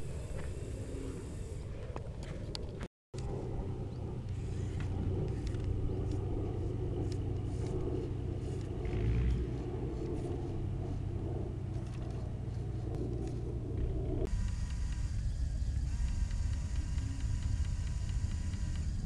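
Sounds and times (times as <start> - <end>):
toy vehicle motors and gears humming: 3.2 - 19.0.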